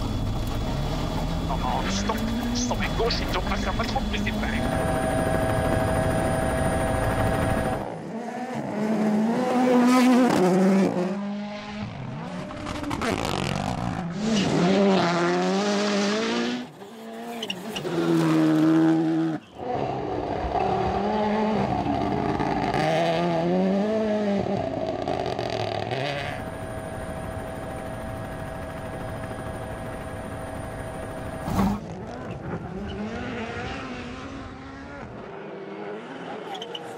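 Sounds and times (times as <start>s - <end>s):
rally car engines revving: 0.0s - 26.5s, 31.3s - 36.9s.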